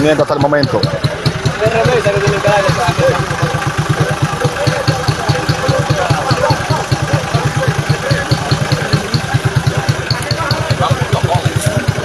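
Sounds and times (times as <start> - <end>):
faint voices: 0.0 - 12.0
vehicle engine idling: 0.0 - 12.0.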